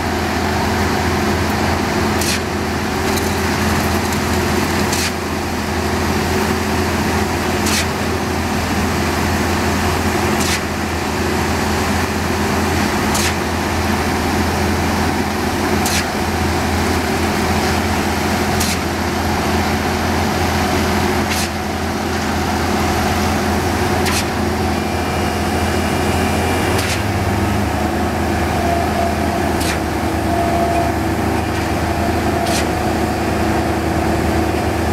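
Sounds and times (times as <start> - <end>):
diesel engine drone: 0.0 - 34.9.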